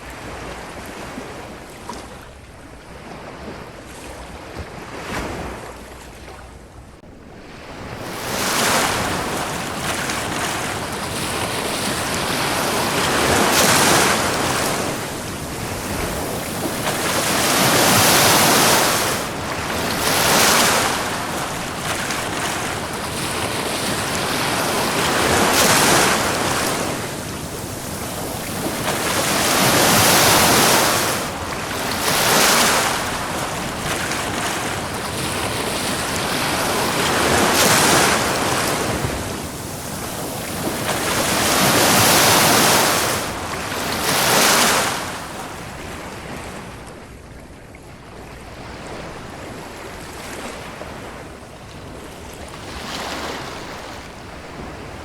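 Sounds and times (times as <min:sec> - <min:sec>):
ocean waves washing onto beach: 0:07.2 - 0:55.0.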